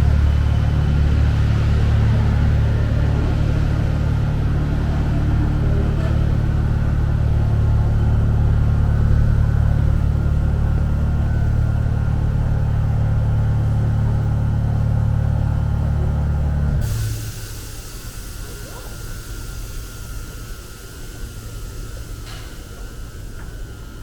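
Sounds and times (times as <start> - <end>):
metro train low rumble: 0.0 - 24.0.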